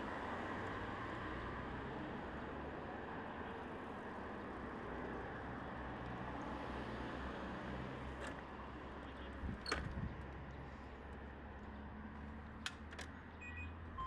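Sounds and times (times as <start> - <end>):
low hum of traffic: 0.0 - 14.0.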